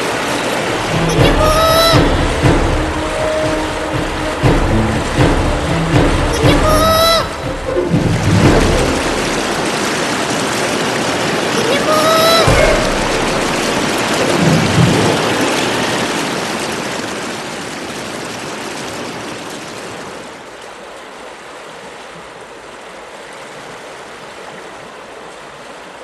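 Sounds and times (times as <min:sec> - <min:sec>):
river rushing: 0:00.0 - 0:26.0
waterfall rushing: 0:00.0 - 0:26.0.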